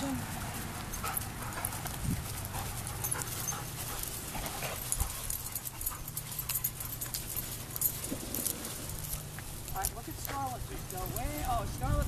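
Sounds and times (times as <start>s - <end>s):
dog panting: 0.0s - 11.4s
small clicks and rustles: 0.3s - 12.0s.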